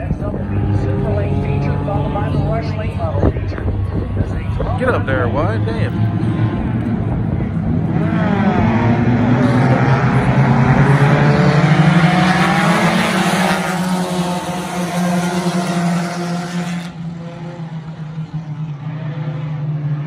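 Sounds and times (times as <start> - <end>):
race car engines passing: 0.0 - 20.0.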